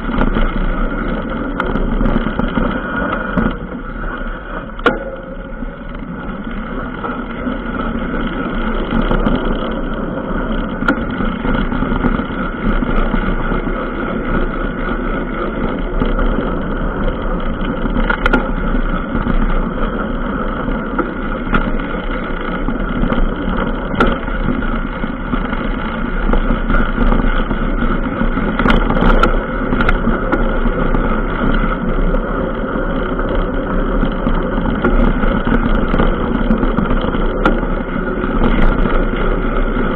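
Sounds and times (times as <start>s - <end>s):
running noise on bumpy dirt trail: 0.0s - 39.9s.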